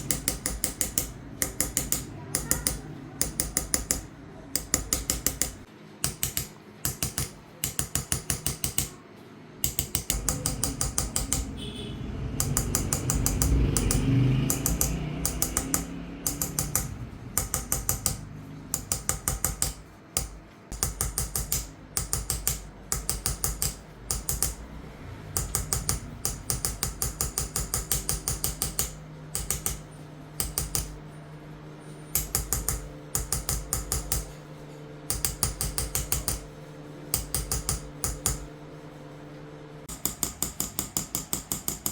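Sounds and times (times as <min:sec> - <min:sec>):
small hammer tapping chisel: 0:00.0 - 0:09.0, 0:09.6 - 0:24.6, 0:25.3 - 0:31.0, 0:32.0 - 0:34.4, 0:35.1 - 0:38.5, 0:39.9 - 0:41.9.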